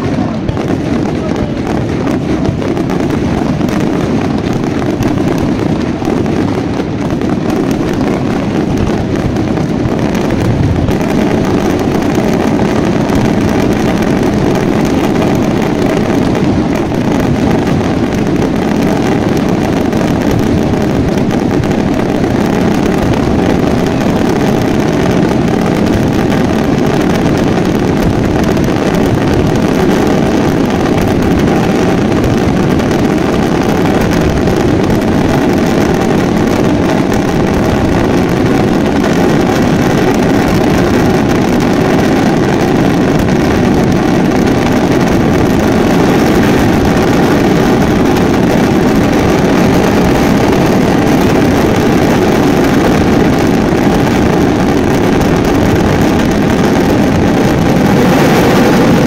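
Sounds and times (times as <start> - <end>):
fireworks bangs and crackle: 0.0 - 59.0.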